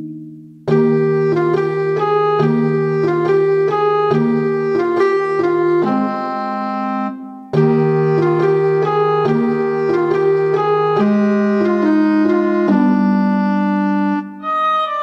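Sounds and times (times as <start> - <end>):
keyboard melody over chords: 0.0 - 15.0.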